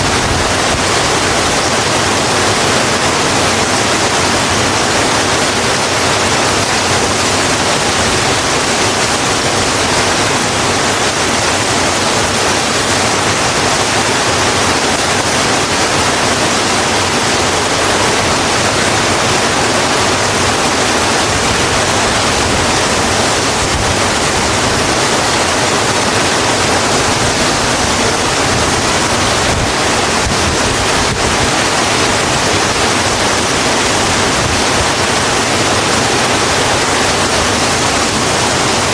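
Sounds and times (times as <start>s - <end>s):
rain falling on a road: 0.0s - 38.9s.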